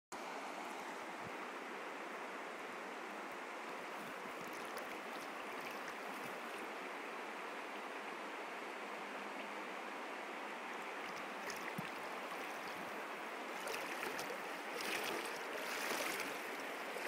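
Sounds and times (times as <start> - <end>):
river flowing over stones: 0.2 - 17.0.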